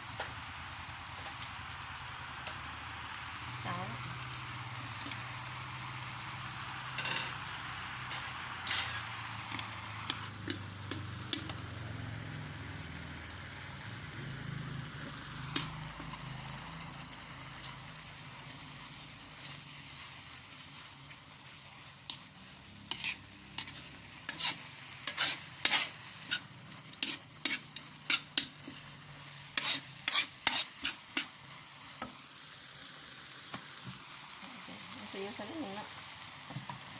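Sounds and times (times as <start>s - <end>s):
food sizzling in a pan: 0.0s - 36.9s
utensil stirring food: 1.4s - 36.9s.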